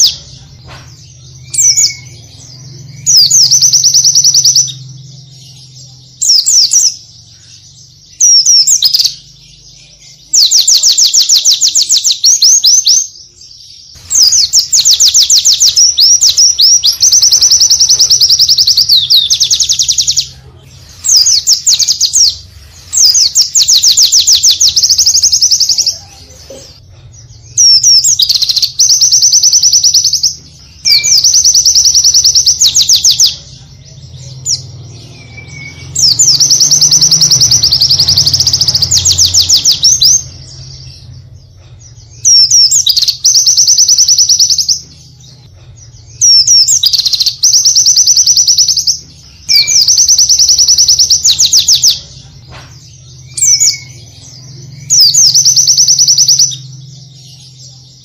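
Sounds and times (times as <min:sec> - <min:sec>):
bird singing high trills: 0:01.1 - 0:20.4, 0:27.3 - 0:41.3, 0:42.0 - 0:52.2, 0:52.9 - 0:57.8.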